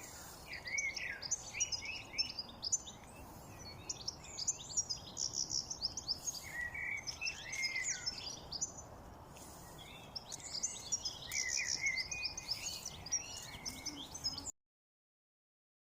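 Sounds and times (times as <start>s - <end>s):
songbirds chirping and singing: 0.0s - 14.5s
steady background hiss: 0.0s - 14.5s.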